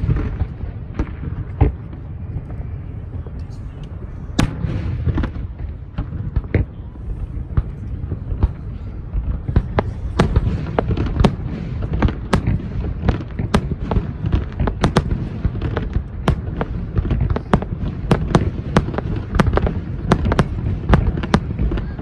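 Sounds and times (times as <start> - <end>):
continuous low rumble: 0.0 - 22.0
fireworks bursting with sharp bangs: 0.0 - 22.0.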